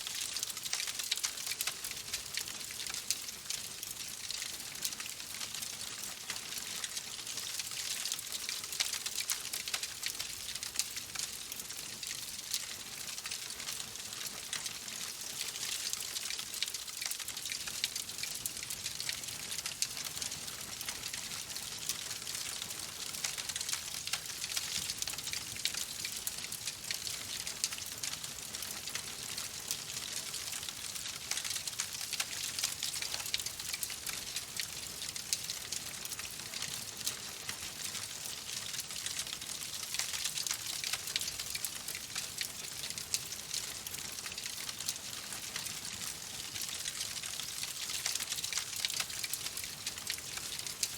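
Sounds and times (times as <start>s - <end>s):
wood fire crackling: 0.1s - 11.7s, 12.3s - 50.9s.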